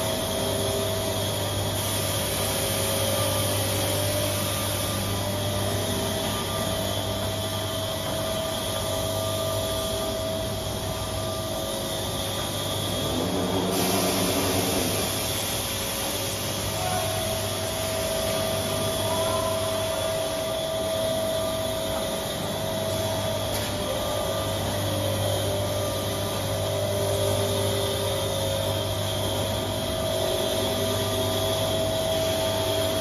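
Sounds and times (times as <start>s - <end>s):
machine whir and hum: 0.0s - 33.0s.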